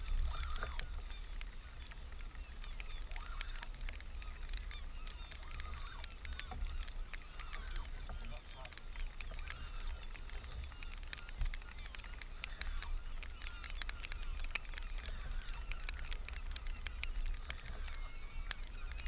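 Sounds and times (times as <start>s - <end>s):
many birds calling: 0.0s - 19.0s.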